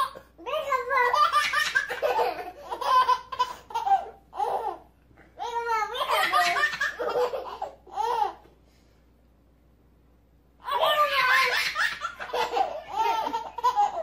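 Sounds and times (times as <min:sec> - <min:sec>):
baby laughing: 0:00.0 - 0:08.5, 0:10.6 - 0:14.0.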